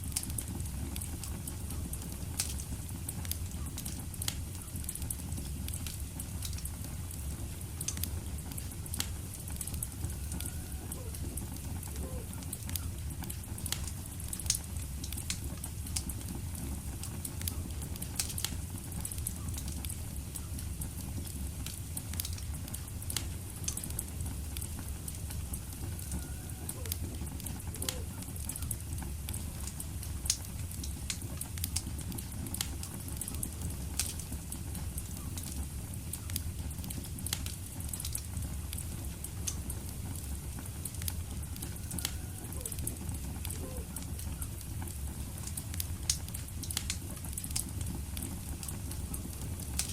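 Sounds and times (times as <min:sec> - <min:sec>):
fireplace fire crackling: 0:00.0 - 0:49.9.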